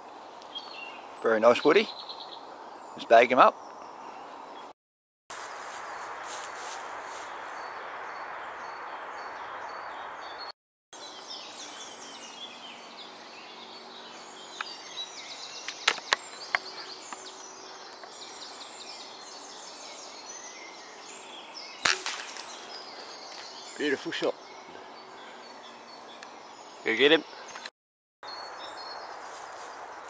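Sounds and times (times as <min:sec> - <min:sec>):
small birds chirping: 0:00.0 - 0:04.7, 0:05.5 - 0:30.0
steady outdoor hiss: 0:00.0 - 0:04.7, 0:05.3 - 0:10.4, 0:11.0 - 0:27.7, 0:28.3 - 0:30.0.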